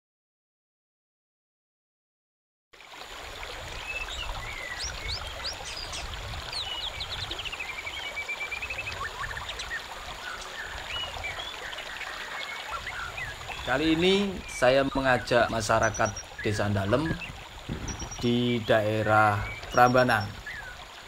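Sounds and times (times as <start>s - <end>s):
stream running over rocks: 2.8s - 21.0s
birds chirping and whistling: 3.8s - 21.0s.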